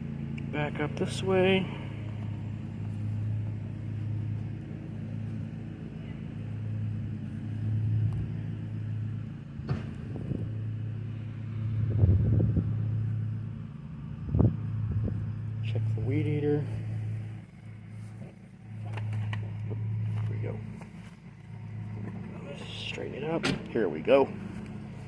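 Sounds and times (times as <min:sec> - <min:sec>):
lawn mower engine humming: 0:00.0 - 0:25.0.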